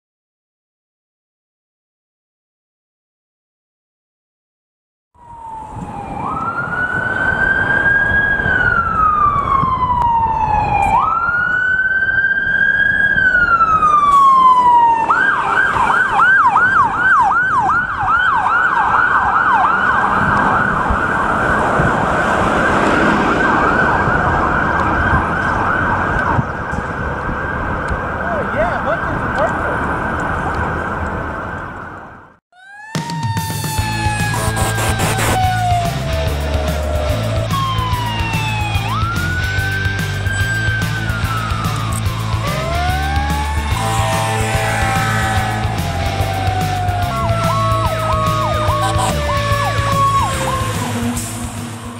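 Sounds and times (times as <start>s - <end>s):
ambulance siren: 5.2s - 28.6s, 29.7s - 51.9s
low traffic rumble: 5.2s - 32.4s, 33.8s - 51.9s.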